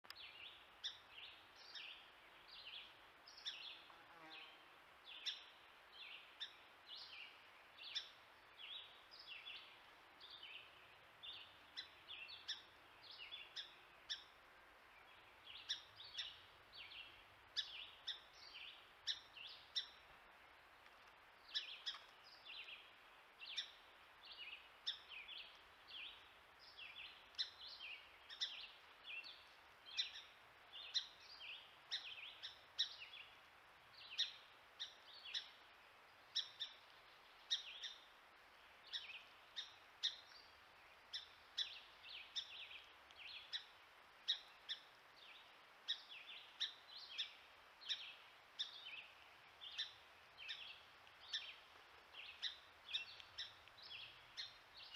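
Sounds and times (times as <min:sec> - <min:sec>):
faint background noise: 0:00.0 - 0:54.9
songbirds chirping: 0:00.0 - 0:54.9.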